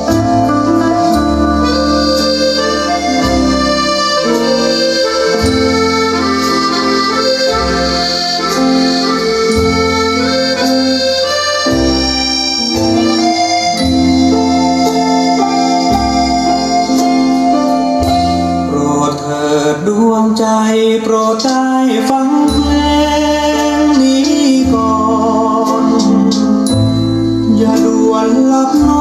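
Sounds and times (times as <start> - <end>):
instrumental music through loudspeaker: 0.0 - 29.0.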